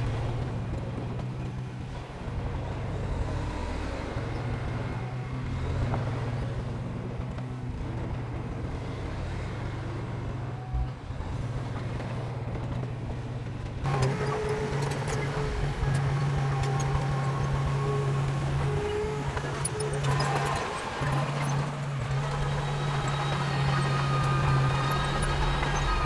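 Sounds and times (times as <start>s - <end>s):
diesel machinery engine running: 0.0s - 26.0s.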